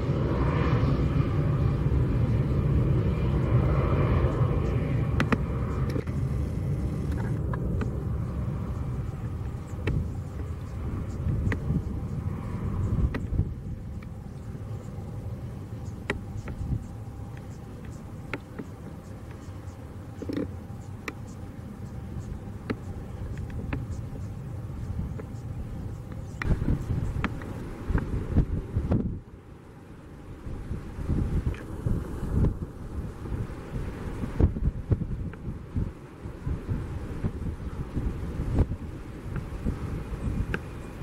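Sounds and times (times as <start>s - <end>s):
jet engine low rumble: 0.0s - 41.0s.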